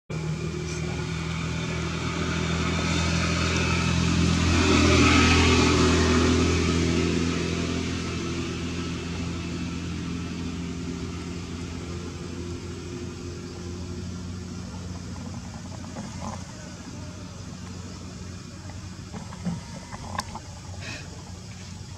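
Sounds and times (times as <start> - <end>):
vehicle engine passing: 0.1 - 21.9.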